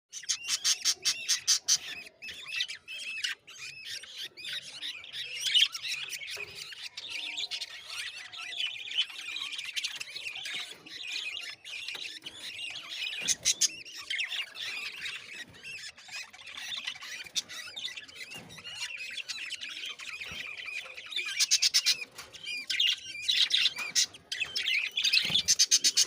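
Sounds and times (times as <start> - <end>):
budgerigars chirping and chattering: 0.1 - 26.0.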